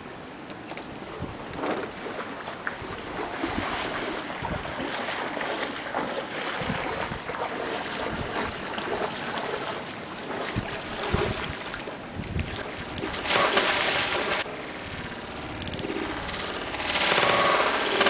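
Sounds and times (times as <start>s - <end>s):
small waves lapping: 0.0s - 18.0s
wind buffeting microphone: 0.8s - 18.0s.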